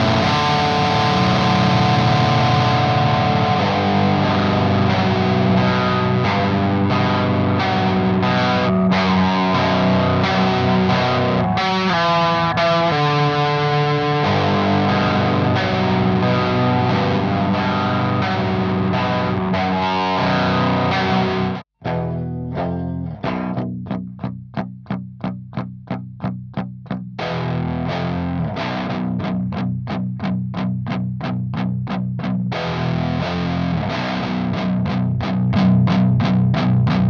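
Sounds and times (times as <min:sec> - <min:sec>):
distorted electric guitar arpeggio: 0:00.0 - 0:37.0.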